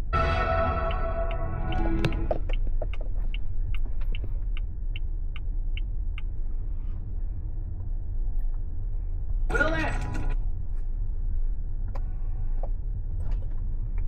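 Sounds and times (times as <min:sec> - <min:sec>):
road rumble inside car cabin: 0:00.0 - 0:14.0.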